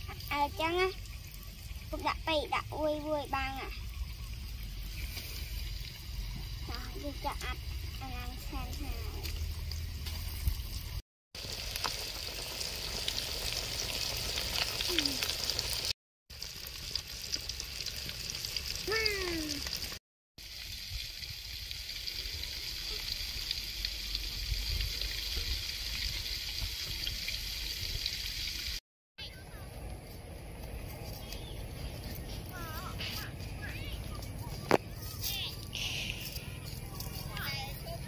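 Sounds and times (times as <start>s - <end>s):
chicken deep-frying in oil: 0.0s - 35.5s.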